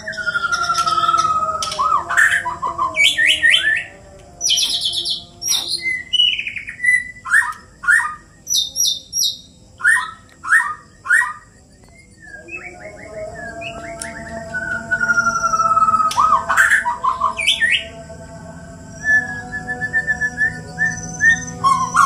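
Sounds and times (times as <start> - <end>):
long bird whistle: 0.0 - 18.0, 18.8 - 22.0
birds chirping and whistling: 0.0 - 22.0.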